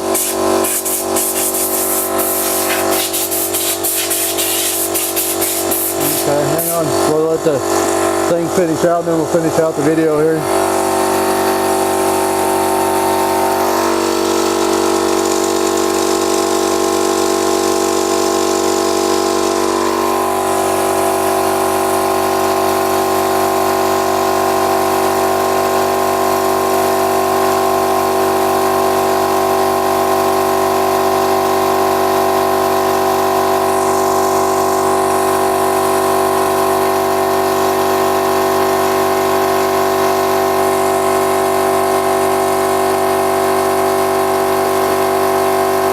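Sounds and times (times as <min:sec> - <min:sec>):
air compressor running: 0:00.0 - 0:45.9.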